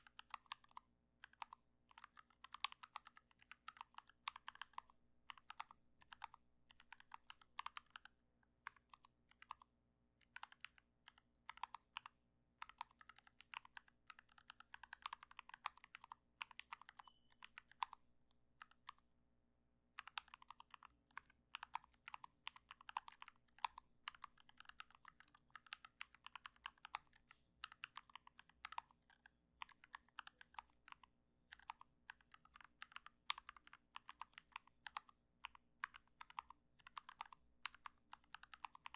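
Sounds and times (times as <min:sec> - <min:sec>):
typing on mechanical keyboard: 0:00.0 - 0:18.0, 0:18.6 - 0:19.0, 0:20.0 - 0:38.9.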